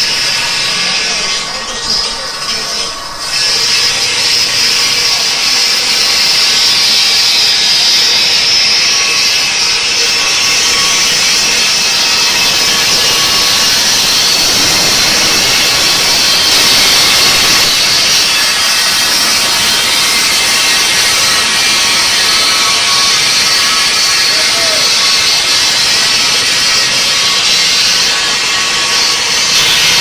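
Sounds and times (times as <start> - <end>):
circular saw cutting stone: 0.0 - 30.0.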